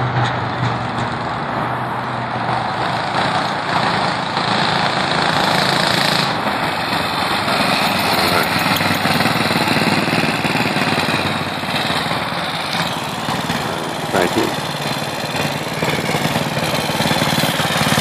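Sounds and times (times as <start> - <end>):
mini bike engine running: 0.7 - 18.0.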